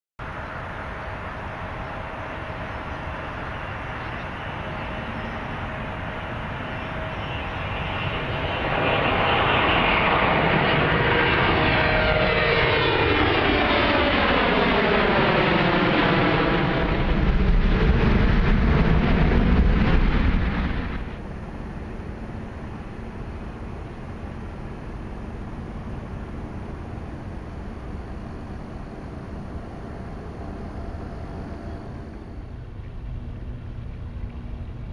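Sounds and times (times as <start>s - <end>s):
jet airliner passing overhead: 0.2s - 34.9s.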